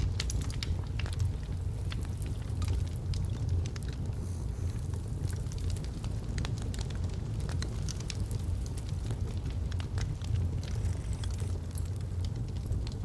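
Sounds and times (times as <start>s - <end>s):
fire crackling and snapping: 0.0s - 13.0s
low rumble of flames: 0.0s - 13.0s.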